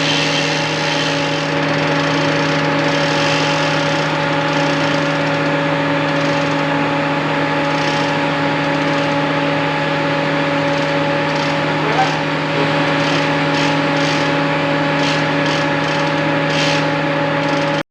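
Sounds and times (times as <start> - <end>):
water pump motor humming: 0.0 - 17.8.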